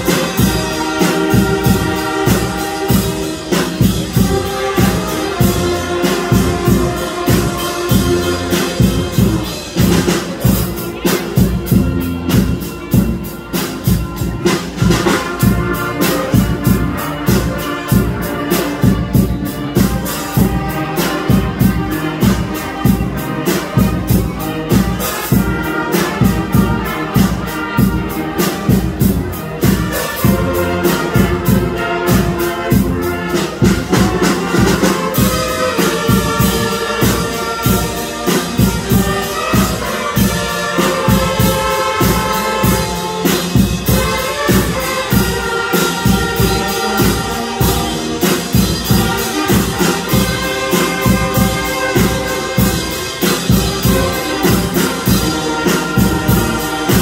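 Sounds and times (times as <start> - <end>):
steady drum beat: 0.0 - 57.0
wind band playing: 0.0 - 57.0.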